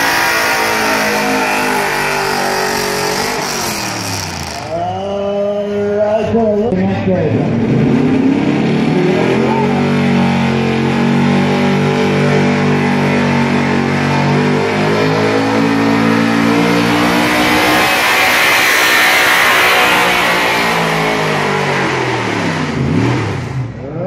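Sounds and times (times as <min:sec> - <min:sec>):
truck engine at high revs: 0:00.0 - 0:05.9, 0:07.1 - 0:24.0
broad rush of noise: 0:00.0 - 0:24.0.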